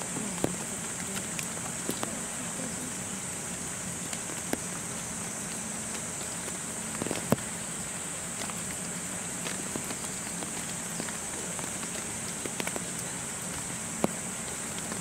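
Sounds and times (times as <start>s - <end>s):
rain hissing: 0.0s - 15.0s
raindrops tapping on surfaces: 0.0s - 15.0s.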